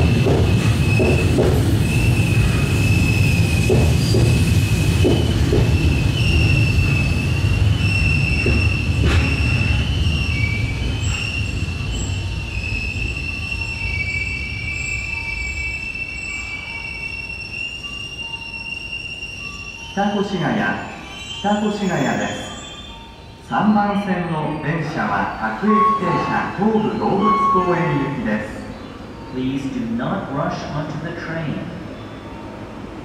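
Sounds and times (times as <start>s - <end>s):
high-pitched wheel squeal: 0.0s - 23.4s, 24.6s - 29.4s
electric train rumble: 0.0s - 33.0s.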